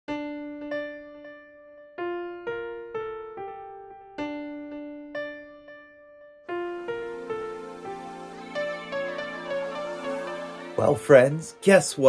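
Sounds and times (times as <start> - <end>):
keyboard playing slow gentle melody: 0.1 - 12.0.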